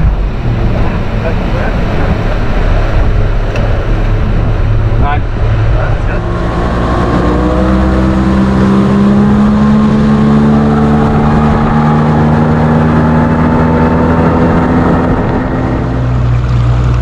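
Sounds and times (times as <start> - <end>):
motorboat engine running: 0.0 - 17.0
rush of wind and water: 0.0 - 17.0.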